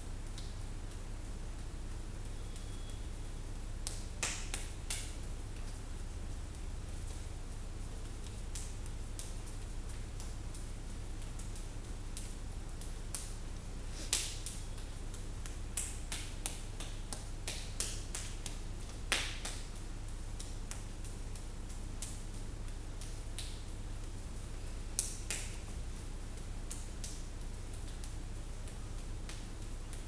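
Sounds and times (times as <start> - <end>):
low steady hum: 0.0 - 30.0
hands and forearms slapping: 0.2 - 1.0, 3.8 - 30.0.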